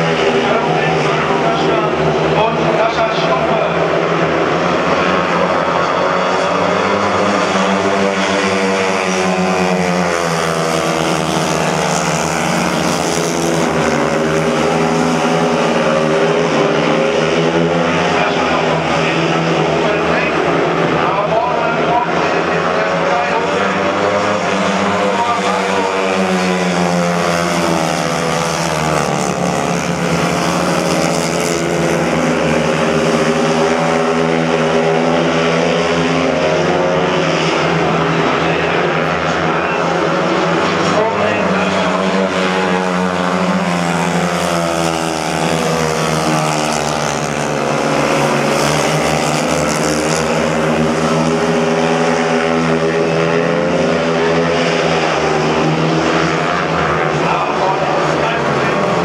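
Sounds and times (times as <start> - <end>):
motorcycle engines racing: 0.0 - 59.0.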